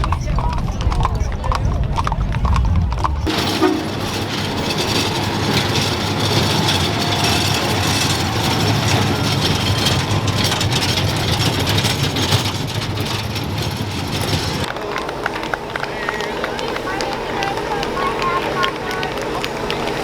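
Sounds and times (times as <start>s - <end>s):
vehicle engine passing: 3.0s - 20.0s.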